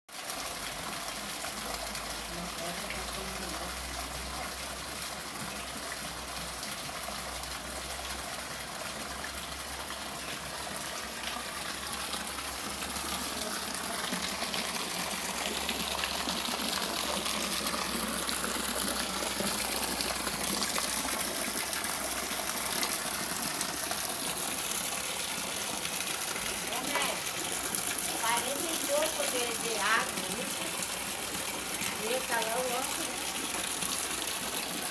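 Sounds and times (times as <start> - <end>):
rainwater gushing: 0.1 - 34.9.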